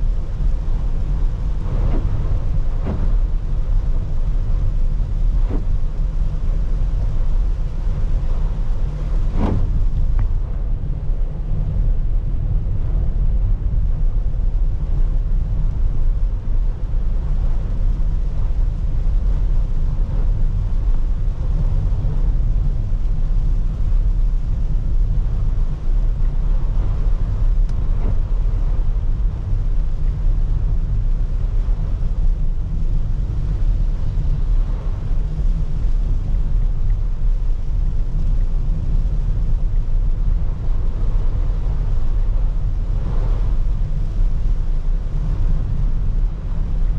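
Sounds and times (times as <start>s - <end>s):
rain and wet tyres hiss: 0.0s - 46.9s
road and engine rumble: 0.0s - 46.9s.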